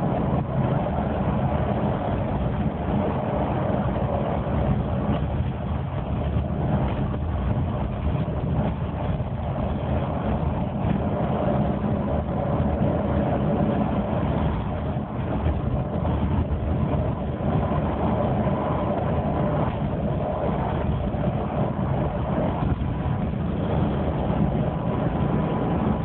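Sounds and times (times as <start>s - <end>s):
bus engine and road drone: 0.0s - 26.0s.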